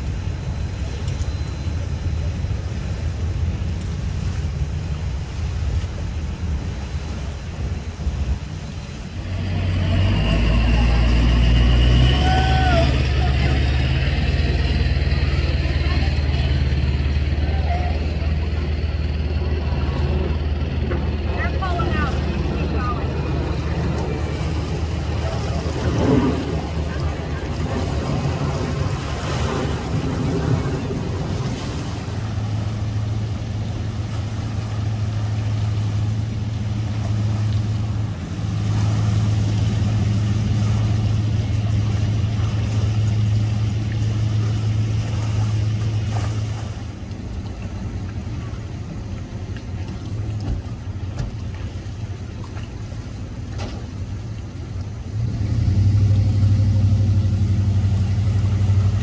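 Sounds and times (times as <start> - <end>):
outboard boat motor idling: 0.0 - 55.2.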